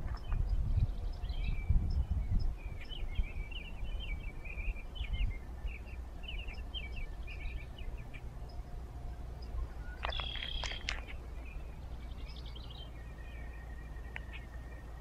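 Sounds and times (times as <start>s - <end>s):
low rumbling noise: 0.0s - 15.0s
small songbird chirping: 0.0s - 15.0s.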